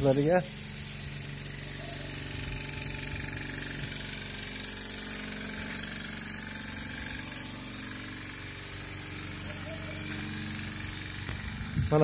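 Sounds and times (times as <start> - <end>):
air compressor humming: 0.0 - 12.0
spray gun hissing: 0.0 - 12.0.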